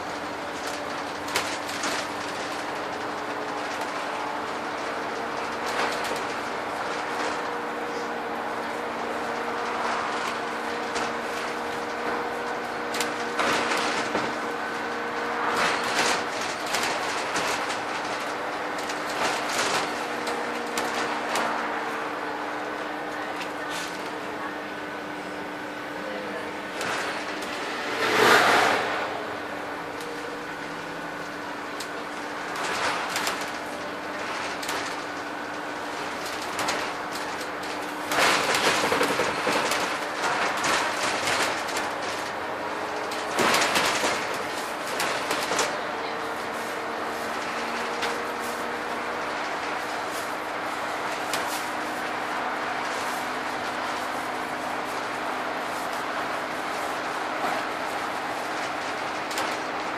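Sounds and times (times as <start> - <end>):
bus engine humming: 0.0 - 59.9
bodywork rattling and squeaking: 0.1 - 24.0, 29.8 - 59.9.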